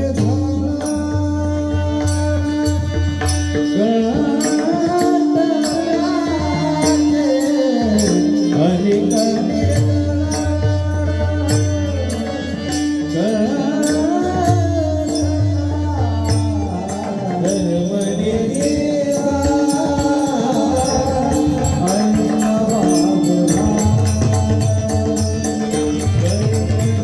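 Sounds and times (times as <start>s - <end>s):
man singing: 0.0s - 27.0s
small hand cymbals: 0.0s - 27.0s.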